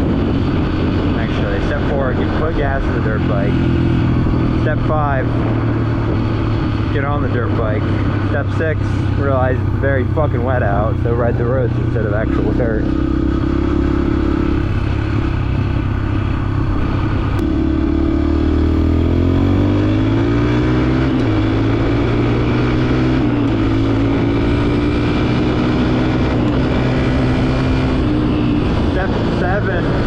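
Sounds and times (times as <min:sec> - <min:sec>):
dirt bike engine accelerating: 0:00.0 - 0:30.0.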